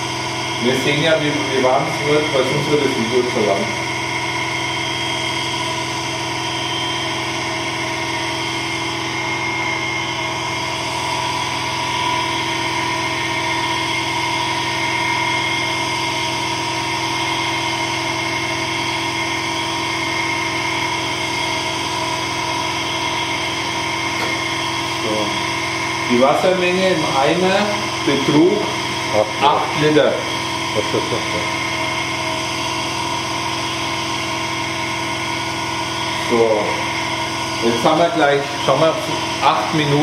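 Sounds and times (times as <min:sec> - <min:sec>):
electric motor humming: 0:00.0 - 0:40.0.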